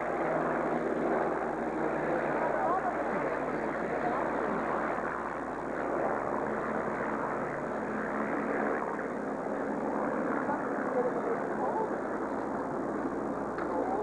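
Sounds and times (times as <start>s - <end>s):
distant jet aircraft roar: 0.0s - 14.0s.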